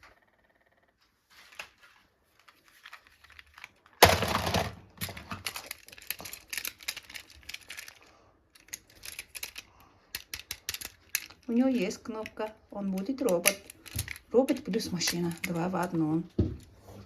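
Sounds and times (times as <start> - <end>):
plastic toy cars clicking and rattling: 1.4 - 16.2.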